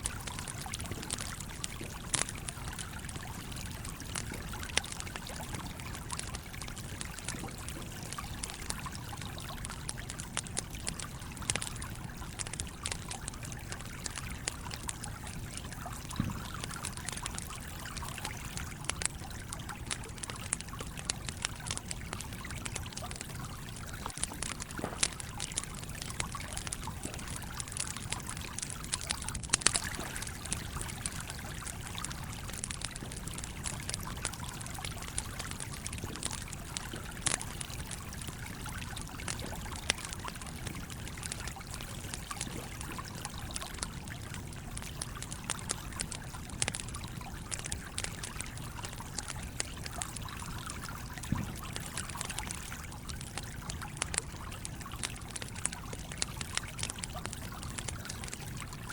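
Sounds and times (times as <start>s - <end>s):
campfire crackling and popping: 0.0s - 58.9s
stream trickling: 0.0s - 58.9s.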